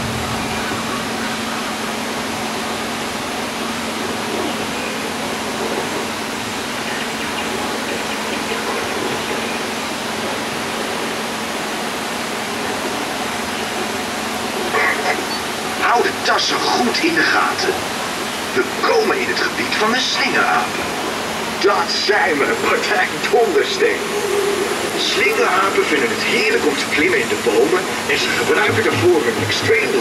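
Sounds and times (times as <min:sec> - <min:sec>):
low steady hum: 0:00.0 - 0:30.0
steady rushing noise: 0:00.0 - 0:30.0.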